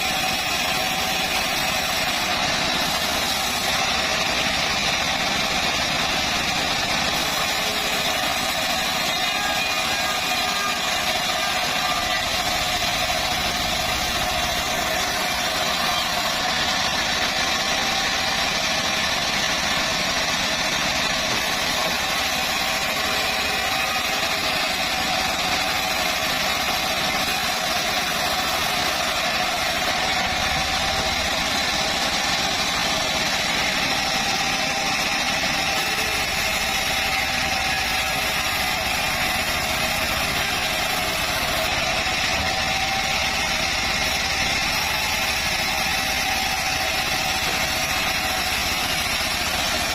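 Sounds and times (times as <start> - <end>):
band sawmill whine and drone: 0.0 - 49.9.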